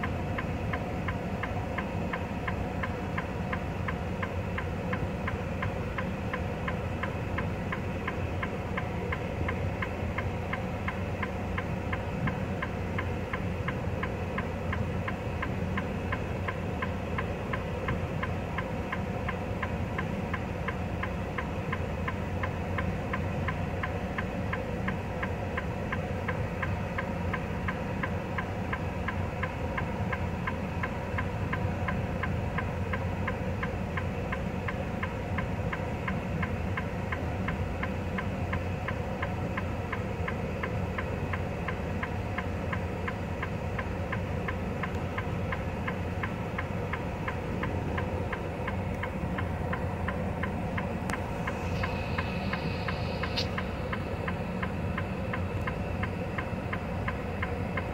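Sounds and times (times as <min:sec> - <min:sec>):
truck idling low hum: 0:00.0 - 0:57.9.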